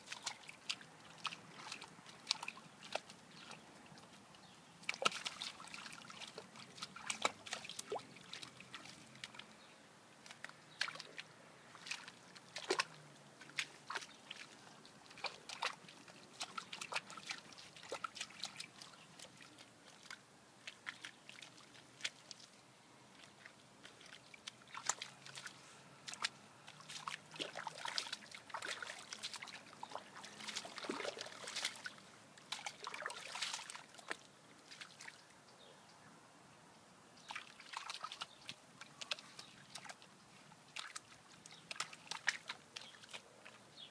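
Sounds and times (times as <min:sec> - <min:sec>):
dog splashing in puddle: 0:00.0 - 0:04.2, 0:04.8 - 0:09.5, 0:10.2 - 0:35.2, 0:37.2 - 0:43.9.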